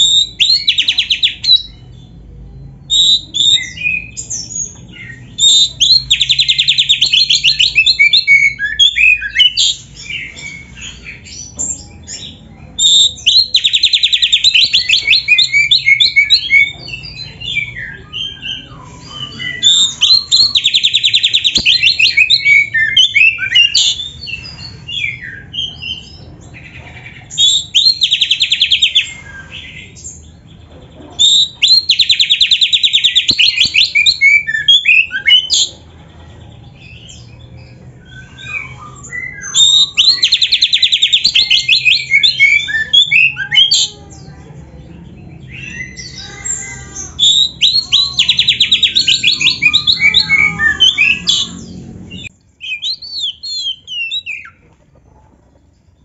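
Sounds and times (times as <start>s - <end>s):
songbird singing trills and whistles: 0.0s - 2.1s, 2.8s - 30.4s, 31.2s - 35.8s, 36.7s - 44.3s, 45.1s - 54.6s.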